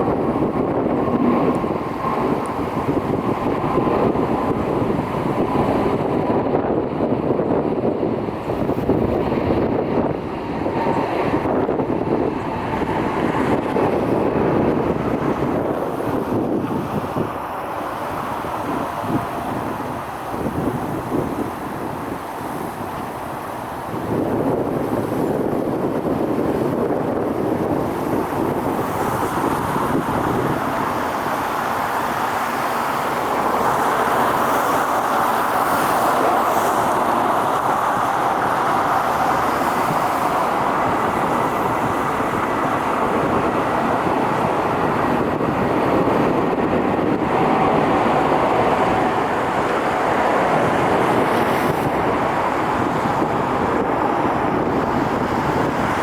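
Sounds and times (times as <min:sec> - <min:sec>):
airliner jet engine: 0:00.0 - 0:56.0.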